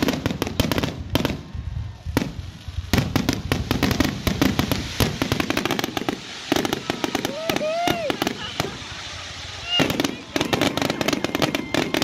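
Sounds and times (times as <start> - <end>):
fireworks shells bursting: 2.2 - 12.0.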